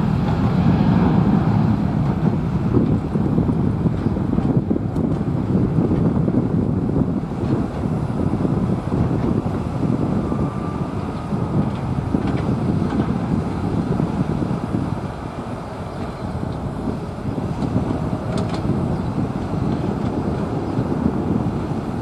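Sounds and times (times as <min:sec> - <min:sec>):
jet engines rumbling at takeoff: 0:00.0 - 0:22.0.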